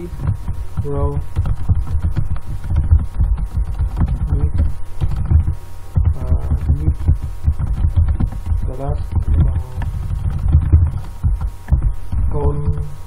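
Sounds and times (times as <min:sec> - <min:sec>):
fast typing on keyboard: 0:00.1 - 0:11.9.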